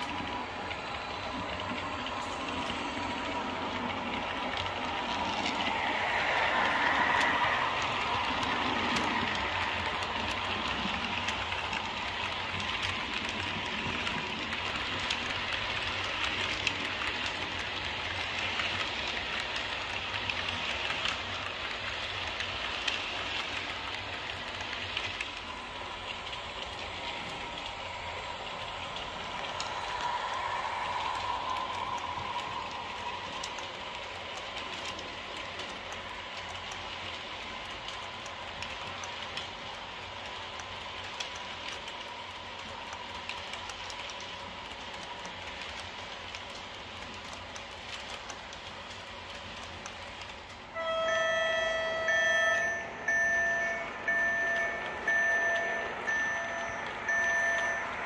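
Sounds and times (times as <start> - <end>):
model train whirring: 0.0 - 58.0.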